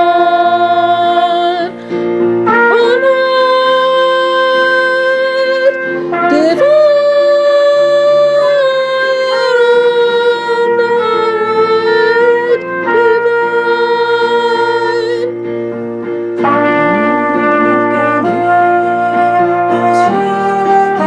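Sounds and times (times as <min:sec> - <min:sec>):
slow melody of long notes: 0:00.0 - 0:21.0.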